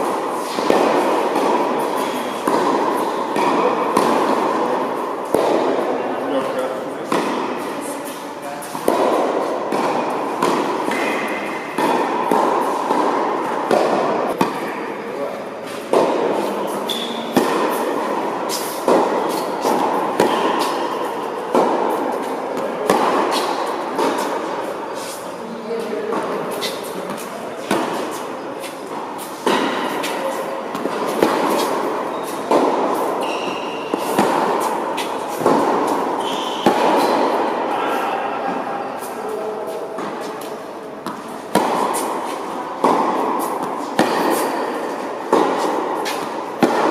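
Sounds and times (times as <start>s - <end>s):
steady background noise: 0.0s - 46.9s
tennis racket striking ball: 0.0s - 46.9s.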